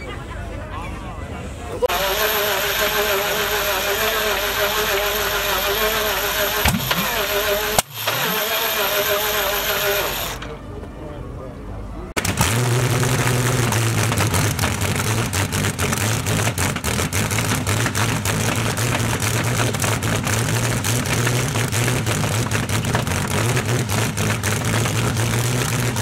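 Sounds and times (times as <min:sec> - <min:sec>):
engine running with exhaust crackle: 0:01.8 - 0:11.2, 0:12.2 - 0:26.0.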